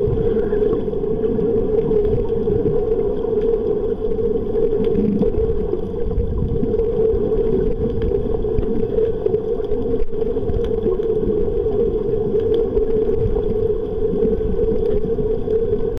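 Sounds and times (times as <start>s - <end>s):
low rumble: 0.0s - 16.0s
underwater hum: 0.0s - 16.0s.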